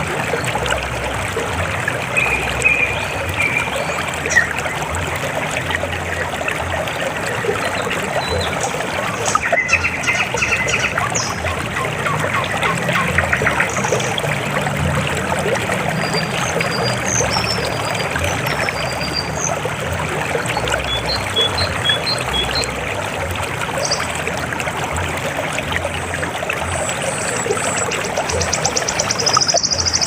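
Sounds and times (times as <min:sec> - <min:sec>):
river water flowing over rocks: 0:00.0 - 0:30.0.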